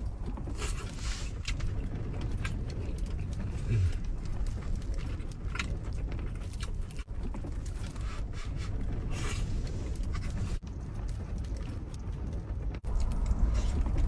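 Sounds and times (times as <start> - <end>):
strong wind buffeting trailer: 0.0 - 14.0.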